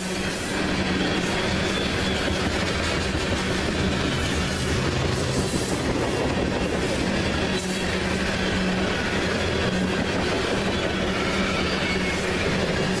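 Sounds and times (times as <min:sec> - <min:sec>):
train wheels rattling on rails: 0:00.0 - 0:13.0.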